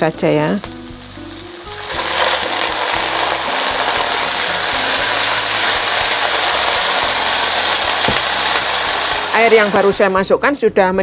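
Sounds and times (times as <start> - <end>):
water sizzling in hot wok: 0.0 - 10.7.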